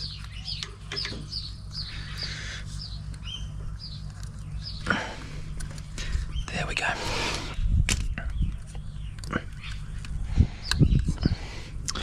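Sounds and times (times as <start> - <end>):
small bird chirping: 0.0 - 5.1, 6.0 - 12.0.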